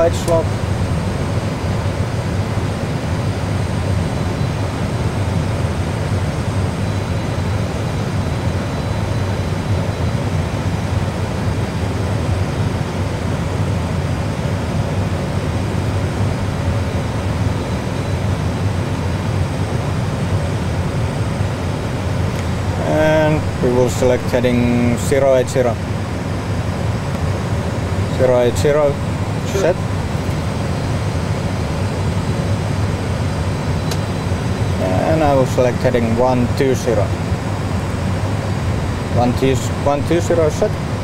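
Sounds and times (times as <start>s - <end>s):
simulated airflow and engine rushing: 0.0s - 41.0s.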